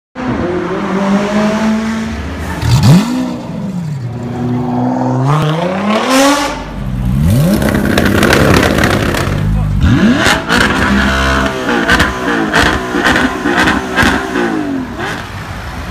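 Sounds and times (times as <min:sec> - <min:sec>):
car engines revving: 0:00.2 - 0:15.9.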